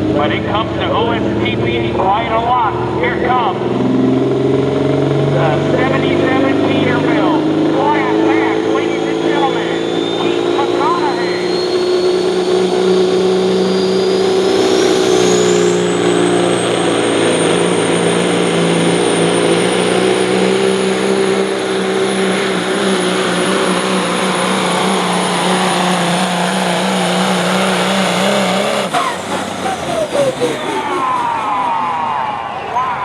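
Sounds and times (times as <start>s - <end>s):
diesel engine running hard: 0.0s - 33.0s
high turbo whine: 0.0s - 33.0s.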